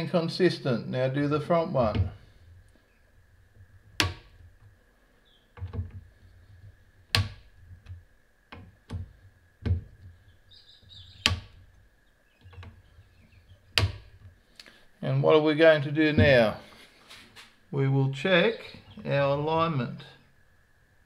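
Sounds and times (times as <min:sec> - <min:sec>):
faint high hum: 0:00.0 - 0:21.0.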